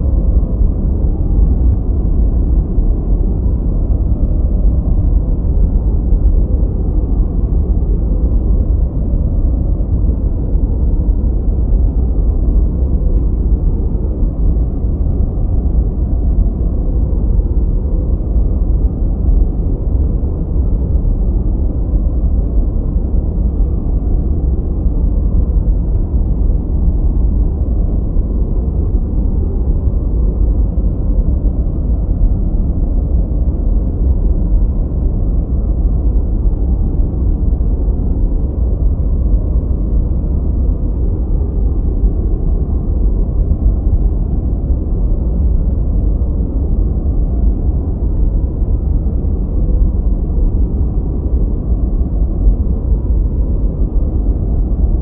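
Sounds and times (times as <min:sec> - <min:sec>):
deep muffled rushing noise: 0:00.0 - 0:55.0.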